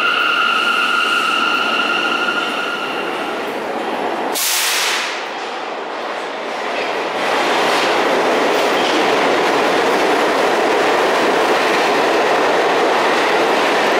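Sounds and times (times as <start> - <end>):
subway train wheels rumbling on rails: 0.0 - 13.9.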